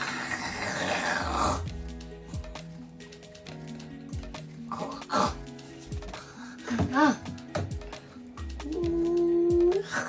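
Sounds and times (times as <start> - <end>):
background music with low beat: 0.0 - 10.0.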